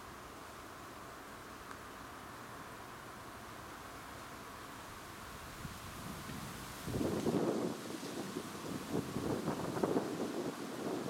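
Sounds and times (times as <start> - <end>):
faint wind: 0.0 - 11.0
rustling leaves: 0.0 - 11.0.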